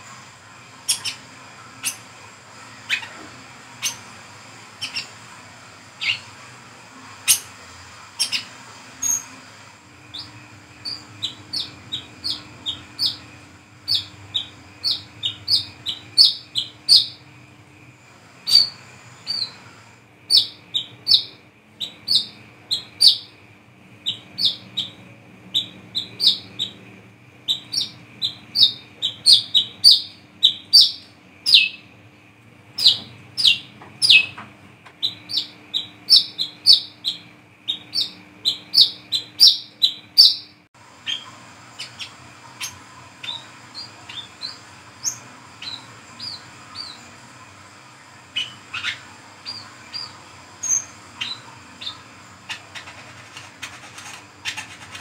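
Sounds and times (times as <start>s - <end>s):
bird chirping: 0.8s - 2.1s, 2.8s - 3.2s, 3.8s - 4.1s, 4.8s - 5.2s, 6.0s - 6.3s, 8.2s - 9.4s, 10.0s - 23.4s, 24.0s - 26.8s, 27.4s - 31.9s, 32.8s - 34.4s, 35.0s - 47.2s, 48.3s - 55.0s.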